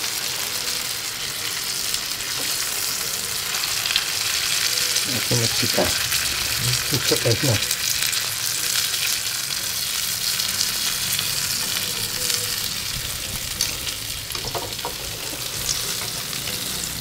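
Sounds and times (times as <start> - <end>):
oil sizzling in skillet: 0.0 - 17.0.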